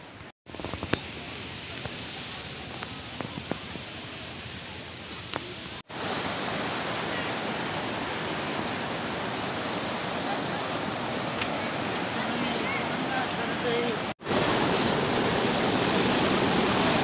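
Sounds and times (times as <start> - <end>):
waterfall rushing: 1.0 - 17.0.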